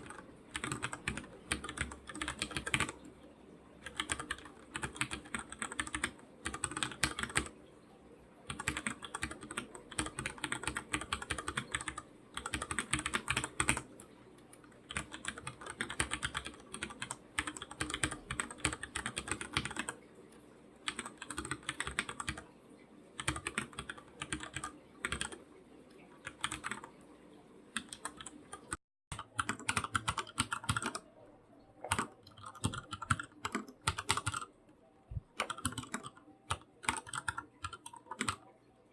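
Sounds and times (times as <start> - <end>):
typing on a computer keyboard: 0.0 - 3.2, 3.8 - 7.6, 8.5 - 22.5, 23.2 - 27.0, 27.7 - 31.1, 31.8 - 34.5, 35.4 - 38.5.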